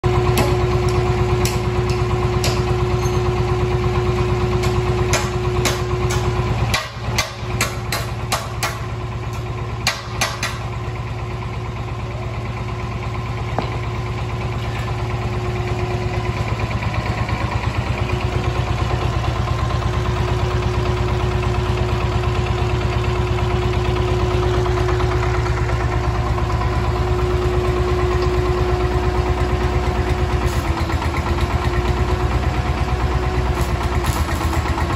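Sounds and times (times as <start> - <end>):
diesel engine chugging: 0.0 - 34.9.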